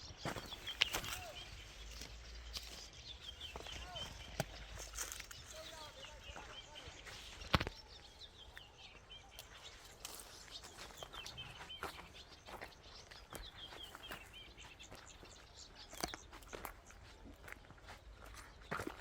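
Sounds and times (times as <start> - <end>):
small birds chirping faintly: 0.0 - 19.0.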